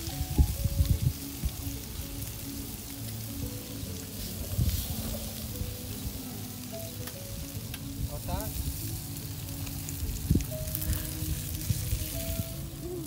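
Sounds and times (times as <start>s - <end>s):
food sizzling in a skillet: 0.0s - 13.0s.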